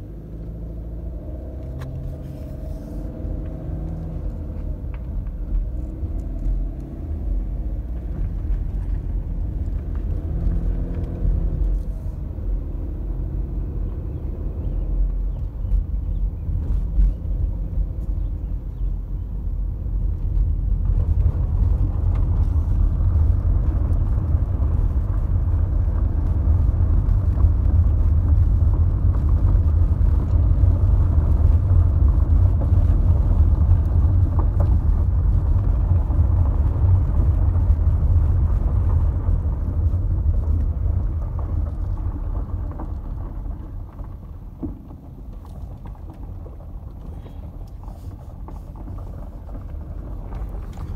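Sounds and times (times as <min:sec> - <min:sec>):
car rumbling on unpaved road: 0:00.0 - 0:50.9.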